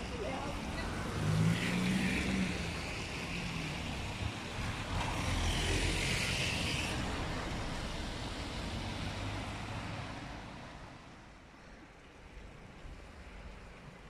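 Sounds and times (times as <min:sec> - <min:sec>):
tyres hissing on wet road: 0:00.0 - 0:14.0.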